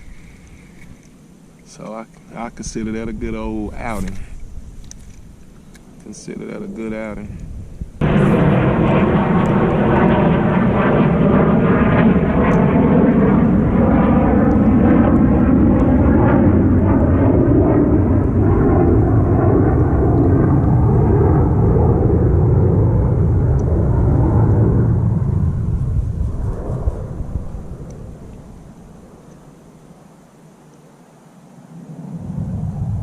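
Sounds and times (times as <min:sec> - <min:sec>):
airplane engine drone overhead: 0:00.0 - 0:33.0.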